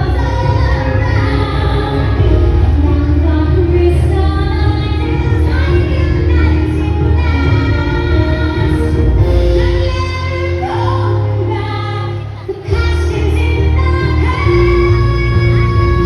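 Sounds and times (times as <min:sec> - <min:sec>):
song with sung vocal: 0:00.0 - 0:16.0.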